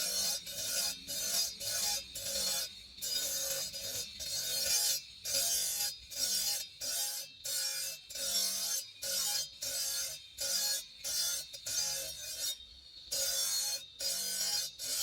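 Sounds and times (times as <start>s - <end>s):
file rasping on marble: 0.0s - 15.0s.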